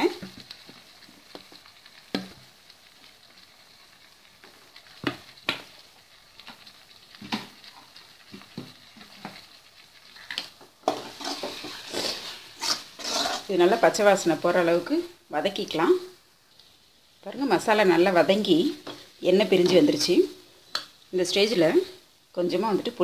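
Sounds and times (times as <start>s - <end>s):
masala sizzling in a pan: 0.0s - 23.0s.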